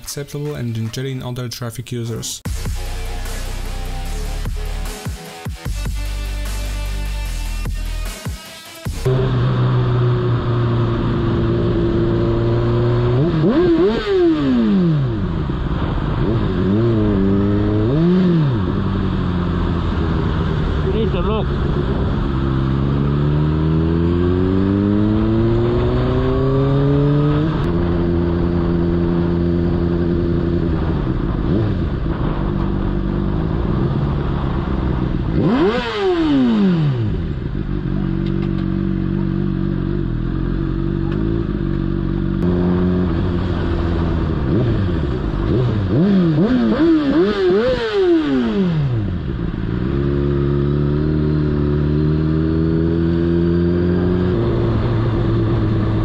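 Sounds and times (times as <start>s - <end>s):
motorcycle engine revving: 2.4s - 56.0s.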